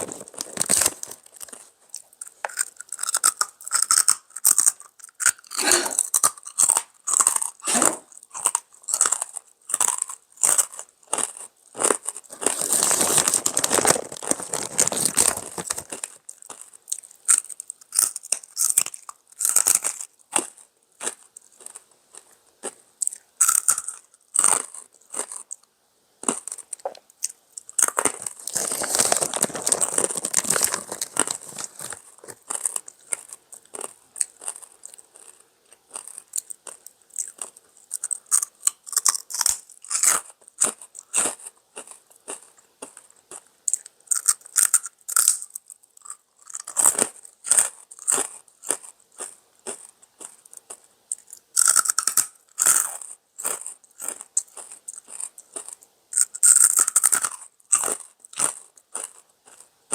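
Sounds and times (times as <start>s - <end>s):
crunching and chewing pork rinds: 0.0s - 59.9s.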